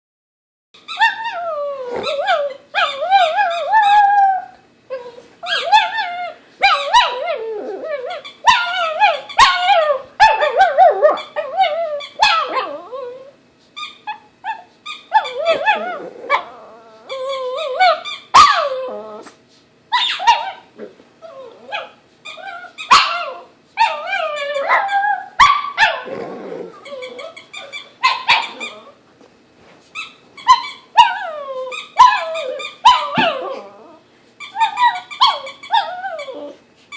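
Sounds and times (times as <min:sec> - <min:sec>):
dog barking growling and whining: 0:00.9 - 0:29.0, 0:30.0 - 0:36.7.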